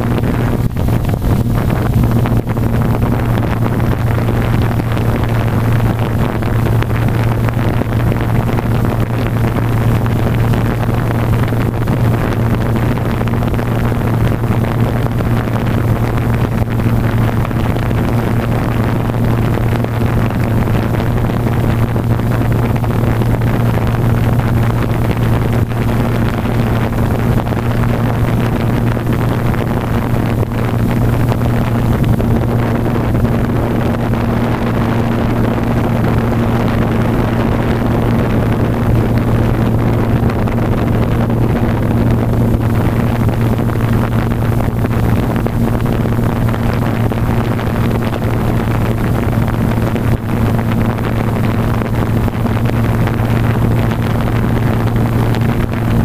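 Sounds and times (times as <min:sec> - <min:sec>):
prop wash over microphone: 0:00.0 - 0:56.0.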